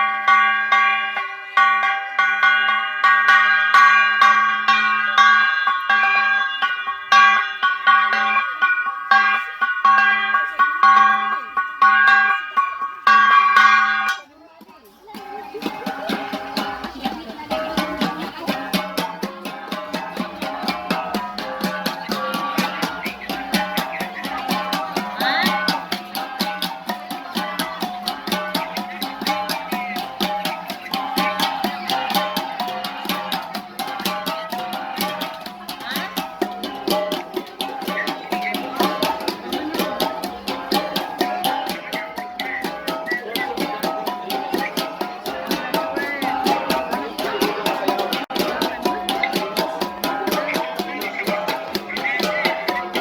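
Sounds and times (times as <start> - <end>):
bronze gongs struck rapidly: 0.0 - 14.4, 15.0 - 53.0.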